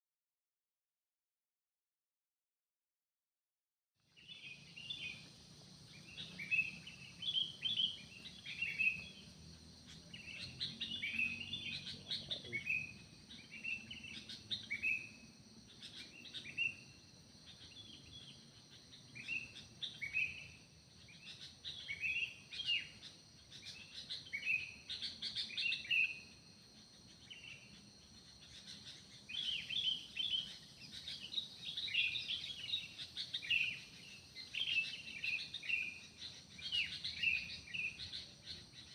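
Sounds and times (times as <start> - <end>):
birds chirping: 4.1 - 38.9
high-pitched insect buzz: 4.1 - 38.9.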